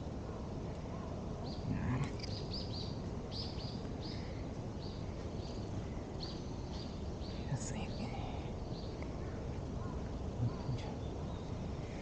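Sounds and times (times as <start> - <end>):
low background noise: 0.0 - 12.0
small bird chirping: 1.4 - 12.0.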